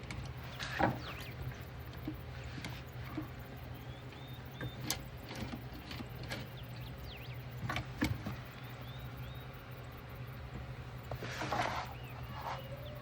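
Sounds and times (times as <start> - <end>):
steady low hum: 0.0 - 13.0
faint bird chirps: 0.3 - 13.0.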